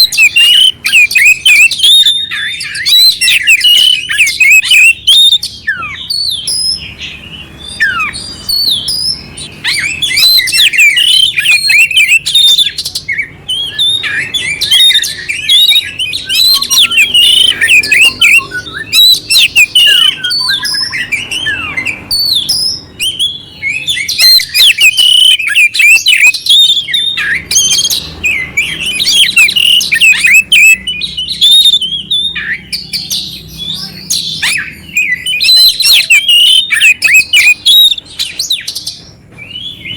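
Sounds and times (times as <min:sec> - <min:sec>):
bird singing varied high notes: 0:00.0 - 0:39.9.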